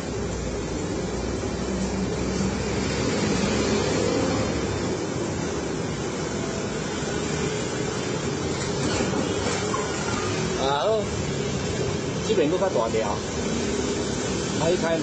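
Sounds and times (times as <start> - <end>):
road hum: 0.0 - 15.0
vehicles passing: 0.0 - 15.0.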